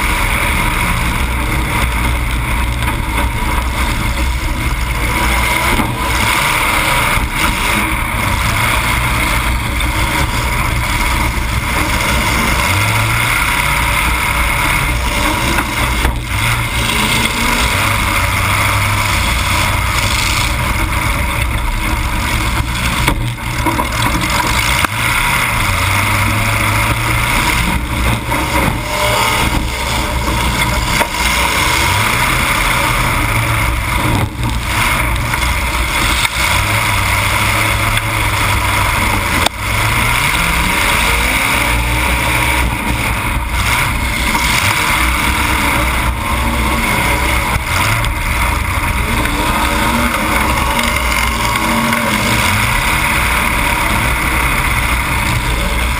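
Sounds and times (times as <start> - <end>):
car engine revving through open exhaust: 0.0 - 55.9.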